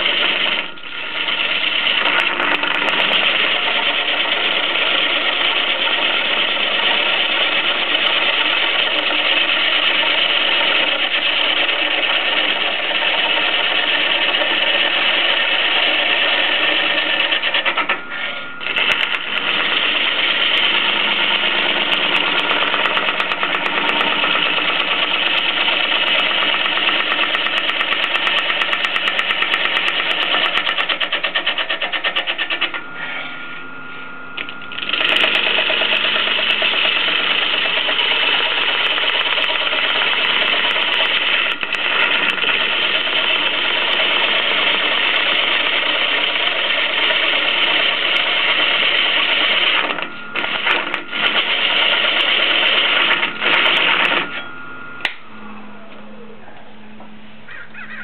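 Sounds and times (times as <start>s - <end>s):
gouge cutting wood on lathe: 0.0s - 32.8s, 34.4s - 54.4s.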